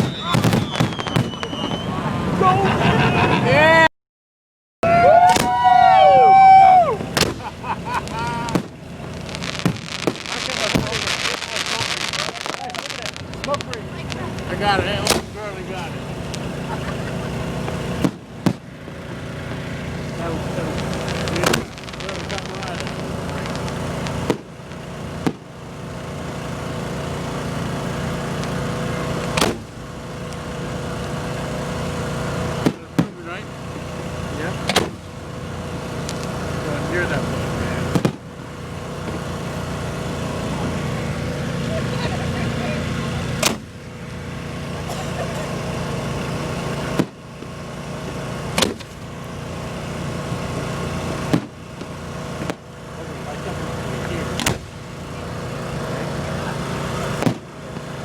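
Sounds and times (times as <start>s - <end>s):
fireworks bangs: 0.0s - 3.1s, 5.2s - 58.0s
generator drone: 0.0s - 3.9s, 4.8s - 58.0s.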